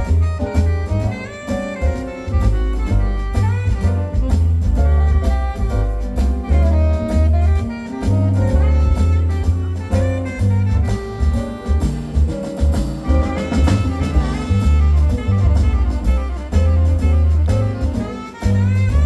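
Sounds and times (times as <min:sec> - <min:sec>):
bass line: 0:00.0 - 0:19.0
drums and cymbals: 0:00.0 - 0:19.0
piano: 0:00.0 - 0:19.0
trumpet and saxophone melody: 0:00.0 - 0:19.0.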